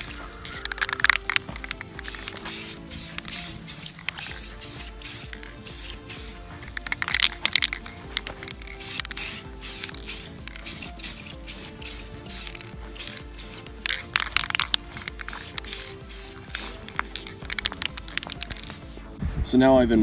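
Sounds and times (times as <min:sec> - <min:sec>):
aerosol spray hissing bursts: 0:00.0 - 0:18.8.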